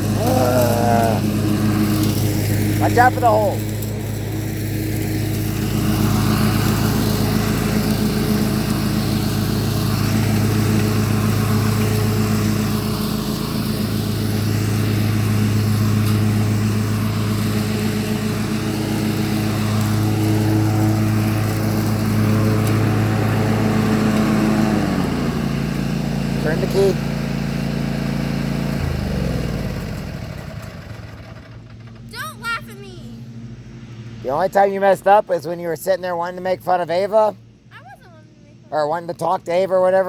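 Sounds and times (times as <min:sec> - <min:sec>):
riding lawn mower engine: 0:00.0 - 0:40.0.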